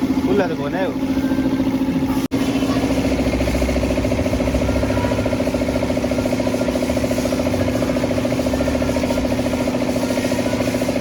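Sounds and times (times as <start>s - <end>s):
motor running with rapid pulse: 0.0s - 11.0s.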